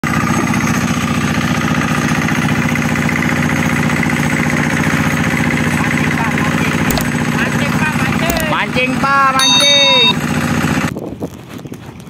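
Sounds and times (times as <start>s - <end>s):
diesel boat engine chugging: 0.0s - 10.9s.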